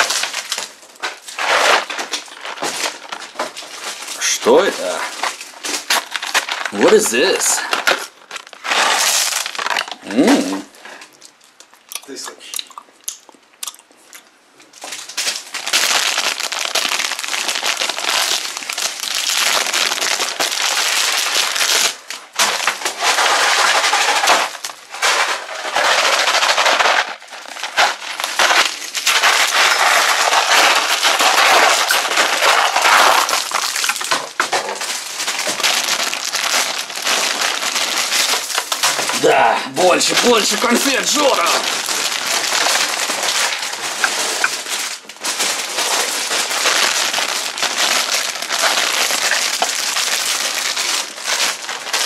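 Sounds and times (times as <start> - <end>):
candy wrappers crinkling: 0.0 - 52.0.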